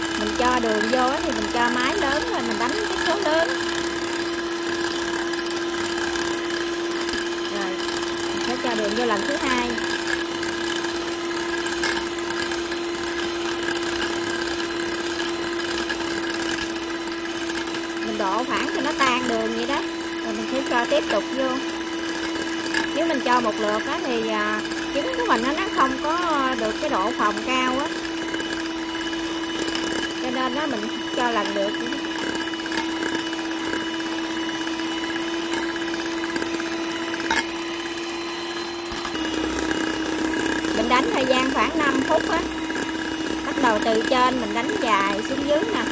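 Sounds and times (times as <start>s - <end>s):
electric hand mixer whine: 0.0s - 45.9s.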